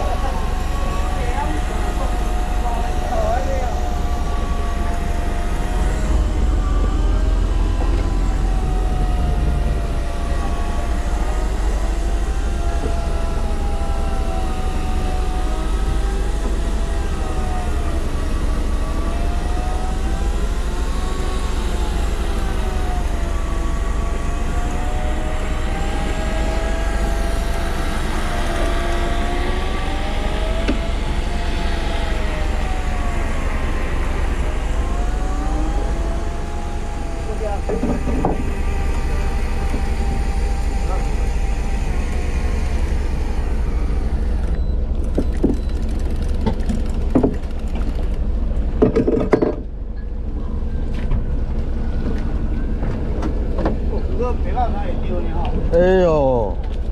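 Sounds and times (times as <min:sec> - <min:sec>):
boat engine rumbling: 0:00.0 - 0:56.9
engine whine rising and falling: 0:00.0 - 0:56.9.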